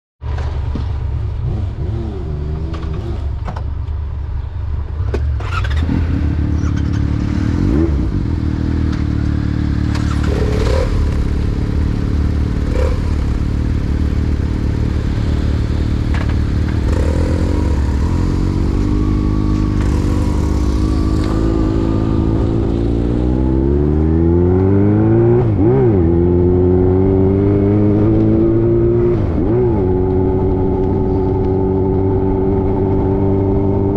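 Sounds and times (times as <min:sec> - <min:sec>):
motorcycle engine accelerating: 0:05.2 - 0:33.9.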